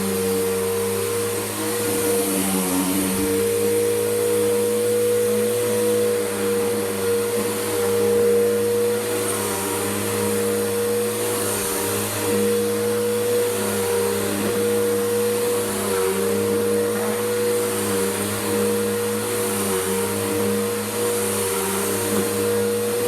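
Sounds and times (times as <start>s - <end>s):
upright vacuum running: 0.0s - 23.0s.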